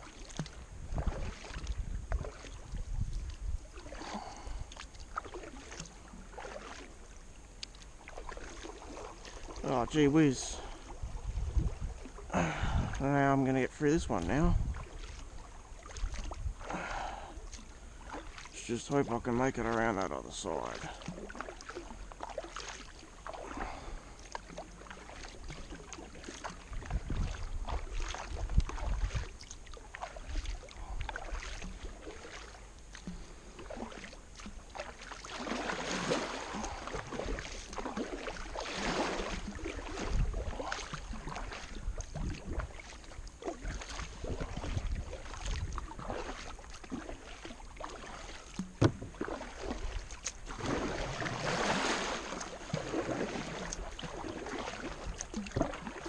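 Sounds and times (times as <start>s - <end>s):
paddle strokes splashing in water: 0.0s - 56.0s.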